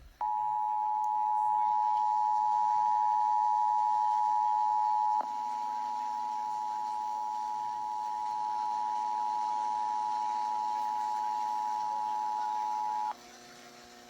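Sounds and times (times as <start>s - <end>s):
faint low hum: 0.0s - 13.2s.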